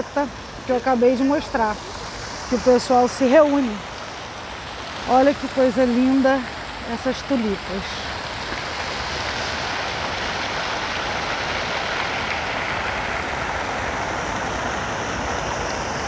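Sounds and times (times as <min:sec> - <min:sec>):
fountain splashing into water: 0:00.0 - 0:16.0.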